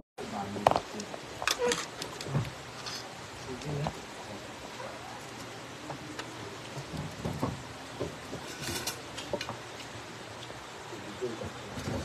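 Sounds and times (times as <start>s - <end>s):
faint steady hiss: 0.2s - 12.0s.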